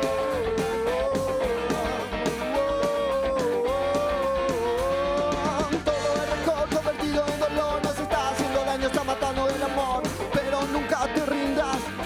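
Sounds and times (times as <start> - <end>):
instrumental rock band music: 0.0 - 12.0.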